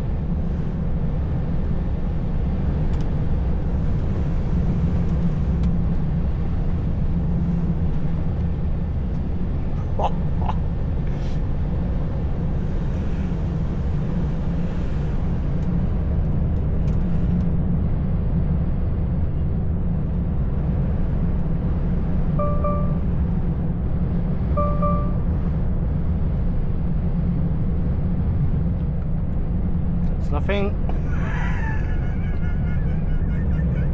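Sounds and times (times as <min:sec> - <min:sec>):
road and wind noise: 0:00.0 - 0:33.9
truck engine drone: 0:00.0 - 0:33.9.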